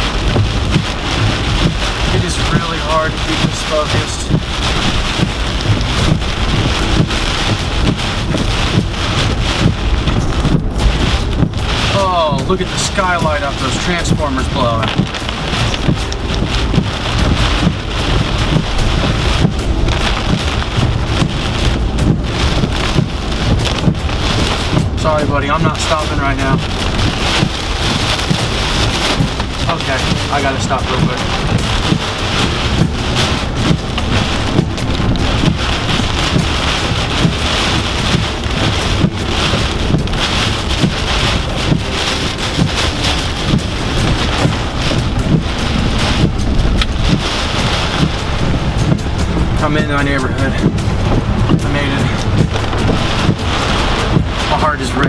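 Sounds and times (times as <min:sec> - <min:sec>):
deep rumble: 0:00.0 - 0:55.0
gusting wind: 0:00.0 - 0:55.0
heavy rain beating on car: 0:00.0 - 0:55.0.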